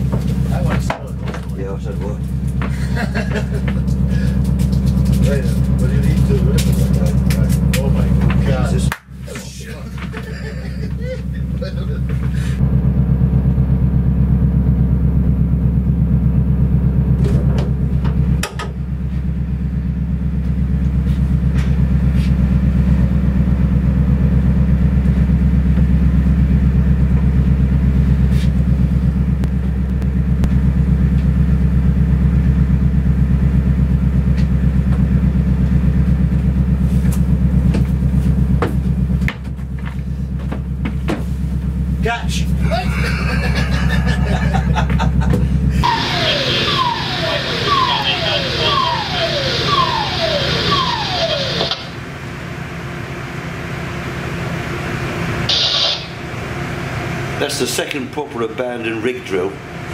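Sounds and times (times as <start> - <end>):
boat engine rumble: 0.0 - 59.9.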